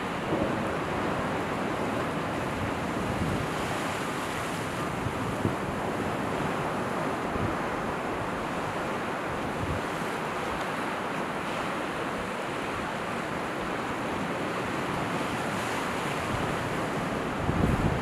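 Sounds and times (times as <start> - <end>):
waves washing: 0.0 - 18.0.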